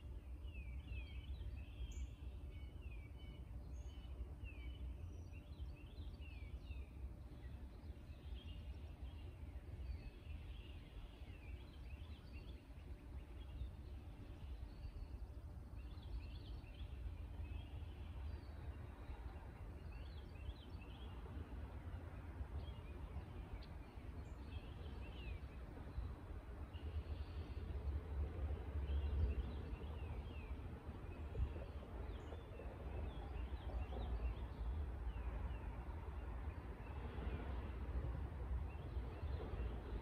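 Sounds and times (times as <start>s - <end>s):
low outdoor rumble: 1.4s - 40.0s.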